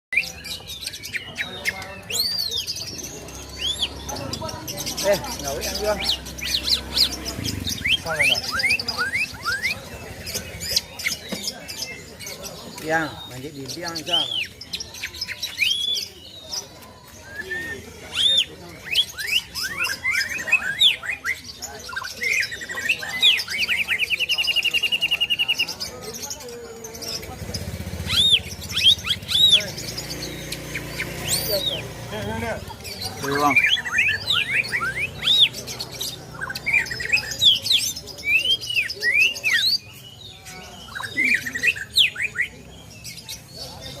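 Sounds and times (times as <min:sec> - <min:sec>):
bird singing whistled notes: 0:05.7 - 0:26.4, 0:27.0 - 0:32.1, 0:32.8 - 0:44.0.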